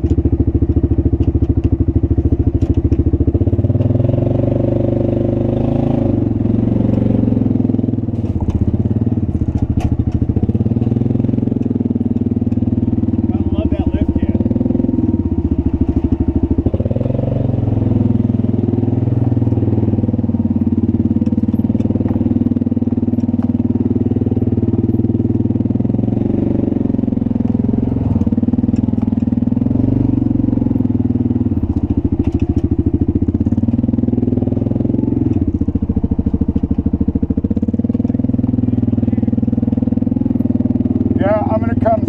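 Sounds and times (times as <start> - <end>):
off-road vehicle engine pulsing: 0.0 - 42.0.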